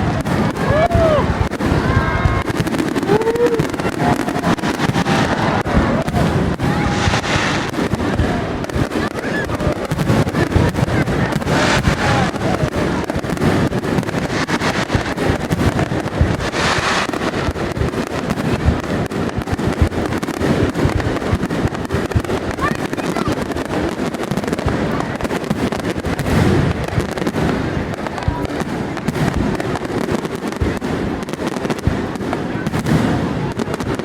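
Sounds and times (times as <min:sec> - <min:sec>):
fireworks bangs and crackling: 0:00.0 - 0:34.0
fireworks hiss: 0:00.0 - 0:34.0
onlookers' voices: 0:00.0 - 0:34.0.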